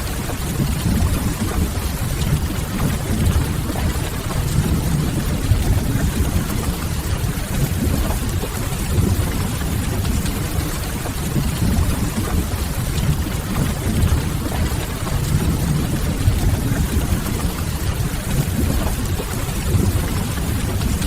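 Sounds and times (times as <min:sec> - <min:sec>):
low constant rumble: 0:00.0 - 0:21.0
steady rain: 0:00.0 - 0:21.0.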